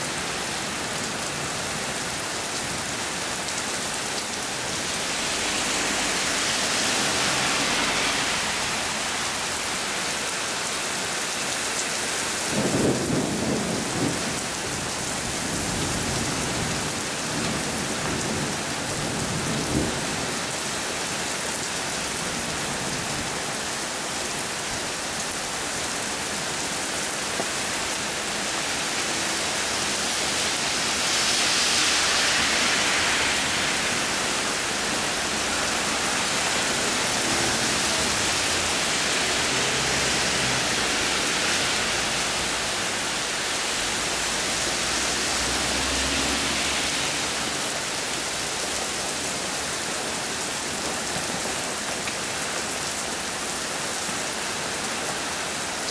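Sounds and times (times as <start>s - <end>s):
heavy rain hissing: 0.0s - 55.8s.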